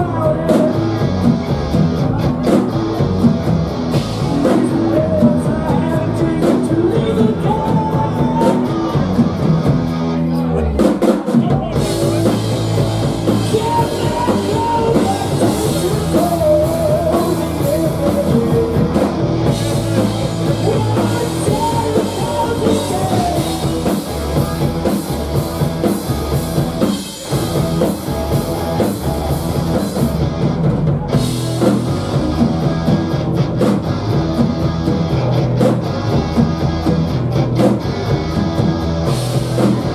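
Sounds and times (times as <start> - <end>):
drum kit with cymbals: 0.0 - 39.9
electric bass: 0.0 - 39.9
electric guitar: 0.0 - 39.9.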